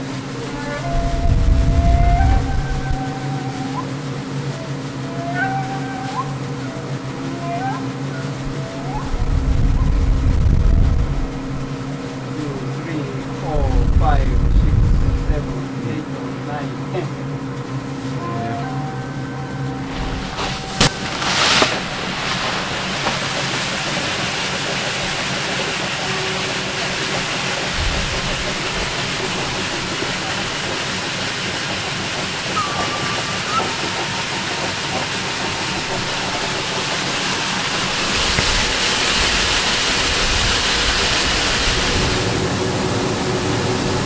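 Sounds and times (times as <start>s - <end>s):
milling machinery running: 0.0s - 44.0s.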